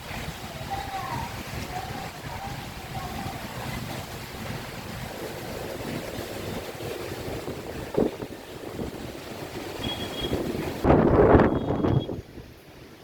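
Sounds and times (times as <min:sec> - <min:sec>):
strong gusting wind: 0:00.0 - 0:13.0
wind buffeting microphone: 0:00.0 - 0:13.0.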